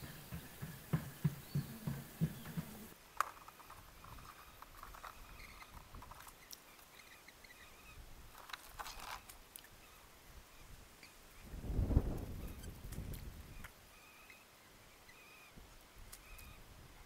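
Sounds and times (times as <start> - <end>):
distant bird chirps: 0.0 - 12.8, 13.4 - 16.7.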